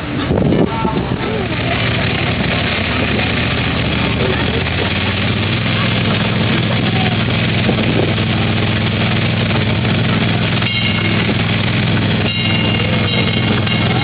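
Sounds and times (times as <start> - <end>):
miniature train engine running: 1.1 - 14.0.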